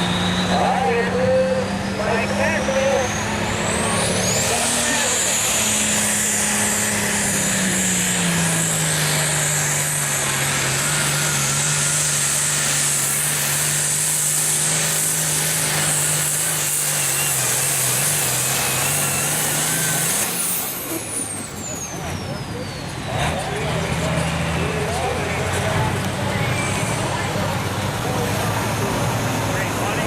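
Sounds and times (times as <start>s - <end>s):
diesel engine at full throttle: 0.0s - 30.0s.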